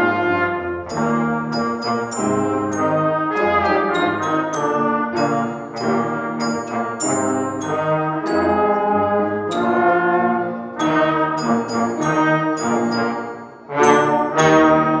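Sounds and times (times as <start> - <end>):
trombone and trumpet band: 0.0 - 15.0.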